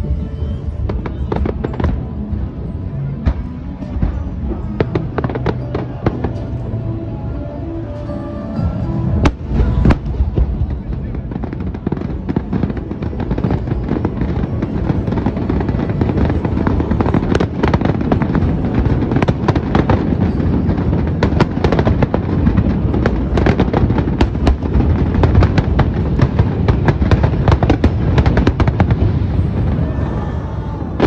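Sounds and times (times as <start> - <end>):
fireworks booming and crackling: 0.0 - 7.3, 8.0 - 31.0.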